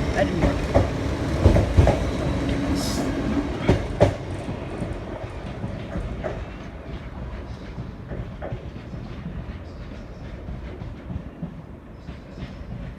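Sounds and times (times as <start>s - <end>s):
train rumble: 0.0s - 12.9s
train wheels clicking on rail joints: 0.0s - 12.9s.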